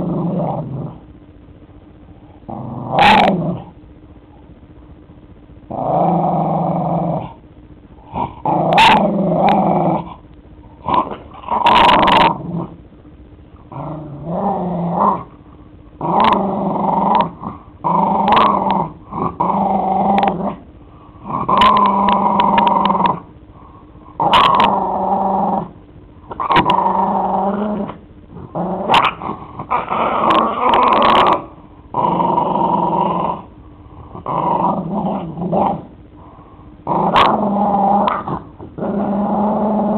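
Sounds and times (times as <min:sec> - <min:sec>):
dog growling: 0:00.0 - 0:01.1, 0:02.2 - 0:03.8, 0:05.7 - 0:07.4, 0:08.0 - 0:10.2, 0:10.8 - 0:12.8, 0:13.6 - 0:15.4, 0:16.0 - 0:23.3, 0:24.1 - 0:39.9.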